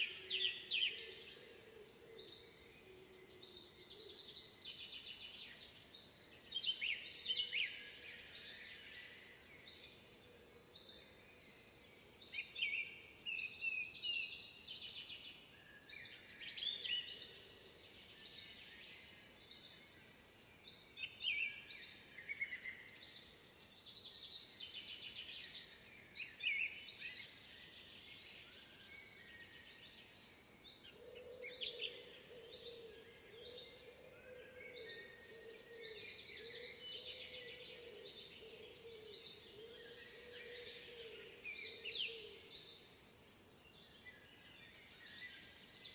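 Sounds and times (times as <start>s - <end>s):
songbirds singing and chirping: 0.0s - 45.9s.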